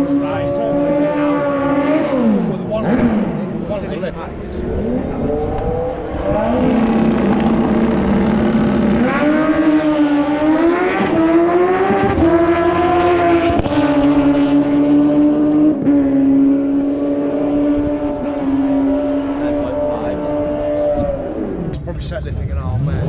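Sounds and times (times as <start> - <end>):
car engine revving through gears: 0.0 - 23.0.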